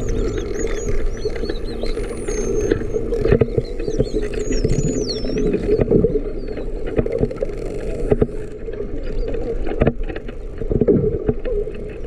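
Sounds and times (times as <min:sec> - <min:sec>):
low underwater hum: 0:00.0 - 0:12.0
whale clicks: 0:00.0 - 0:12.0.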